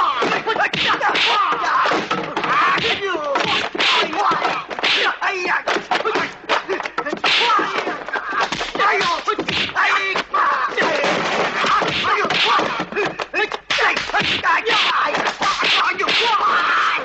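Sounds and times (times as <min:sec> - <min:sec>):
fighters shouting and grunting: 0:00.0 - 0:17.0.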